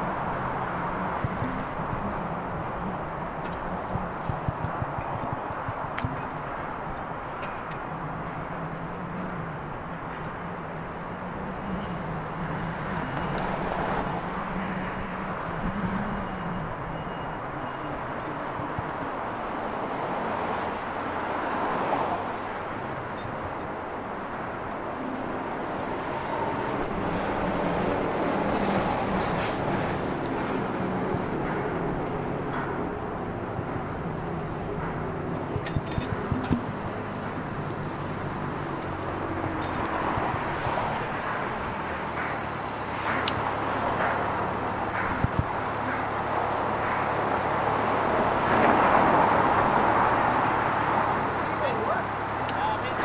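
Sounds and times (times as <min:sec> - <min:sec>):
engine hum: 0:00.0 - 0:53.0
vehicles driving past: 0:00.0 - 0:53.0.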